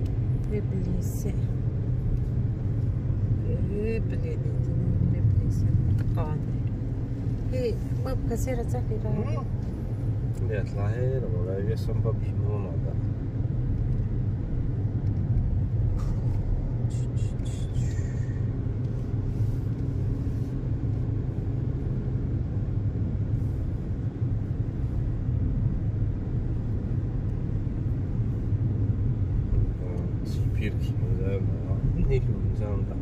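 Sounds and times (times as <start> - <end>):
low motor rumble: 0.0 - 33.0.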